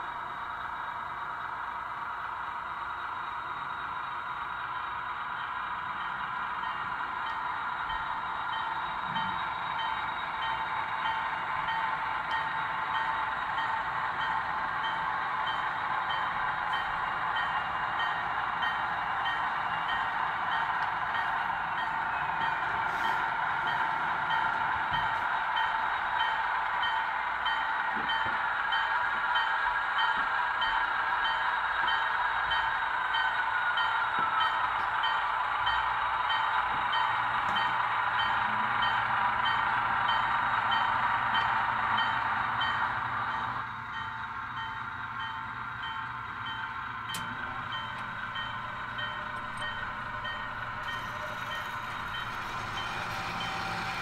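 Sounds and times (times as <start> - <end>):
model train whirring on track: 0.0 - 54.0.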